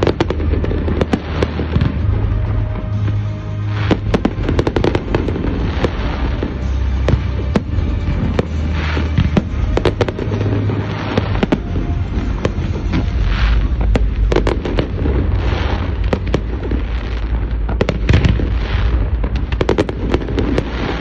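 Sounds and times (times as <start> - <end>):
crackling hiss of fireworks: 0.0 - 21.0
fireworks bangs and pops: 0.0 - 21.0
low rumble: 0.0 - 21.0.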